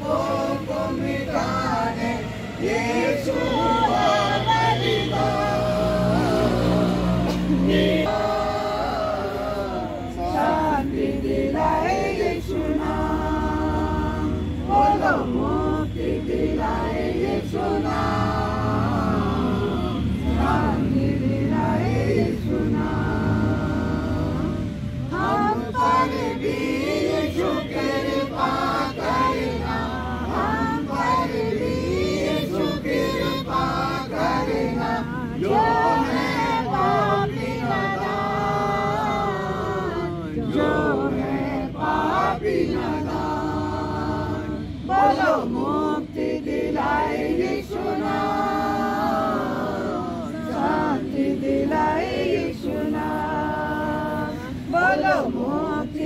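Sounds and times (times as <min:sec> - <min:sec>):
group singing in unison: 0:00.0 - 0:56.0.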